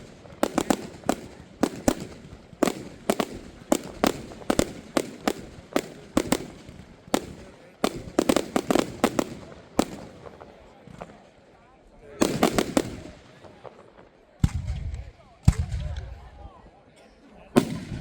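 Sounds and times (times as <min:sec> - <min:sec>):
fireworks bangs: 0:00.0 - 0:11.2, 0:12.2 - 0:16.1, 0:17.6 - 0:18.0.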